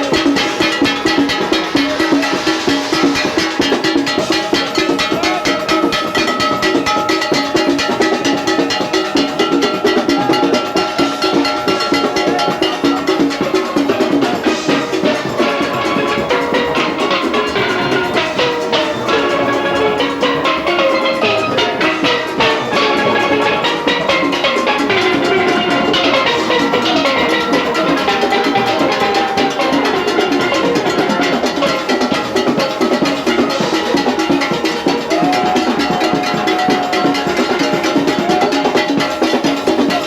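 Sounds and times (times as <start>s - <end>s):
drum and percussion beat: 0.0s - 40.0s
steel pans playing melody: 0.0s - 40.0s.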